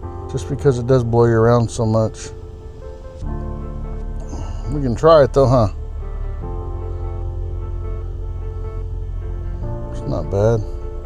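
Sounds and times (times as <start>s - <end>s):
background music with held notes: 0.0s - 11.0s
steady low bass: 0.0s - 11.0s.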